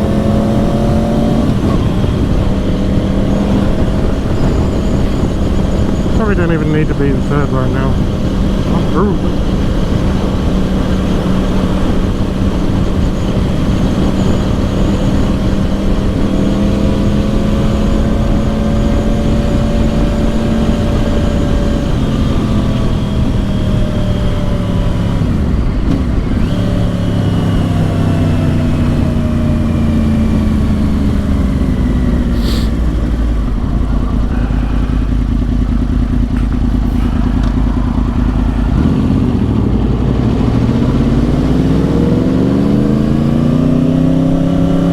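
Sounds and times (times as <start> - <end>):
rush of noise: 0.0 - 30.0, 31.0 - 44.9
motorcycle engine riding: 0.0 - 44.9.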